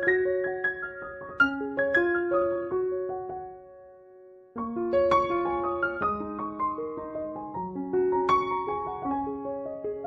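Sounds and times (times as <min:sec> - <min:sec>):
piano melody: 0:00.0 - 0:10.0.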